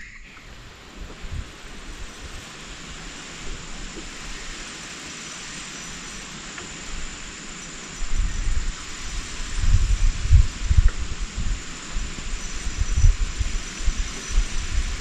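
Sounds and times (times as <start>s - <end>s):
wind buffeting microphone: 0.0s - 4.7s, 6.8s - 15.0s
wind hiss: 0.0s - 15.0s.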